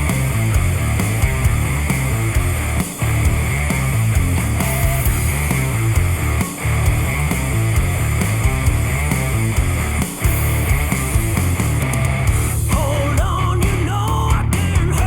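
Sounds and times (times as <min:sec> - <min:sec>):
rock music through headphones: 0:00.0 - 0:15.0.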